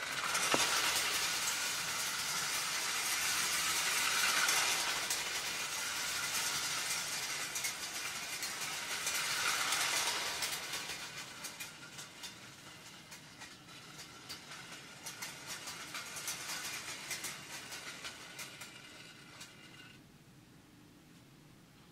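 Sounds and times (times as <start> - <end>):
toy train wheels clicking on track: 0.0 - 20.0.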